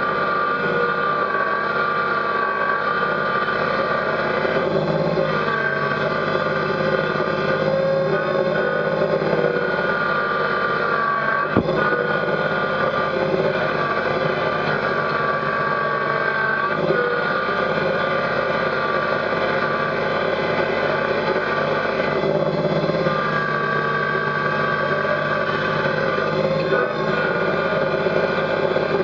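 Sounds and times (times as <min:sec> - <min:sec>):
high whine: 0:00.0 - 0:29.0
tractor diesel engine running: 0:00.0 - 0:29.0.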